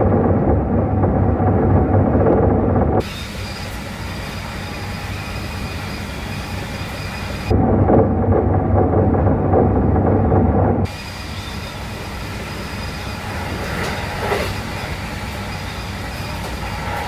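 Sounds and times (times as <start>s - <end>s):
electric train running noise: 0.0s - 7.6s, 8.3s - 17.0s
high whining tones: 0.0s - 17.0s.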